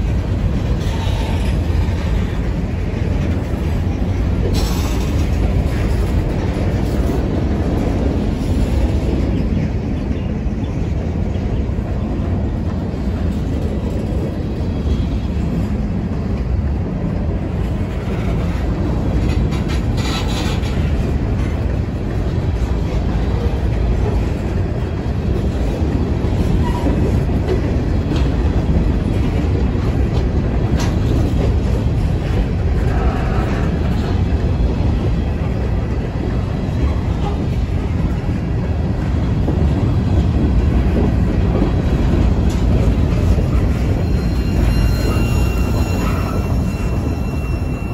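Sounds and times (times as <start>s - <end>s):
freight train wheels rumbling on rails: 0.0s - 47.9s.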